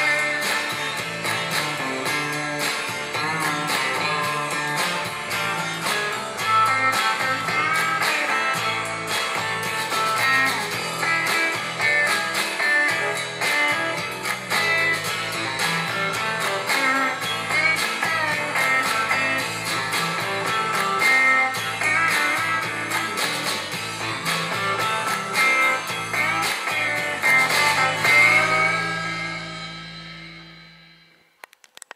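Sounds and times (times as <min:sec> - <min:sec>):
instrumental guitar music on speakers: 0:00.0 - 0:31.3.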